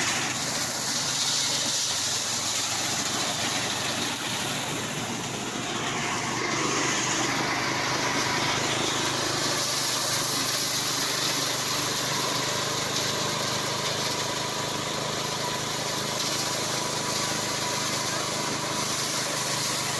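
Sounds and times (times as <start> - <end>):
threshing machine running: 0.0 - 19.9.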